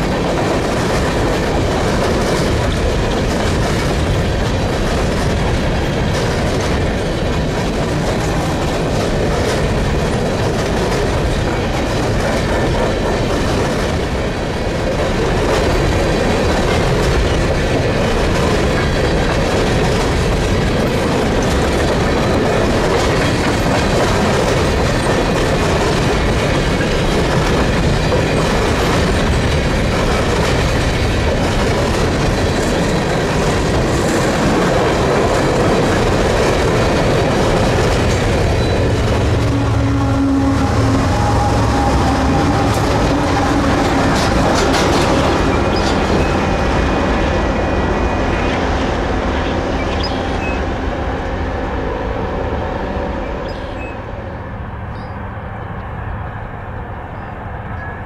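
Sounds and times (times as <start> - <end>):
train wheels clattering on rails: 0.0 - 52.2.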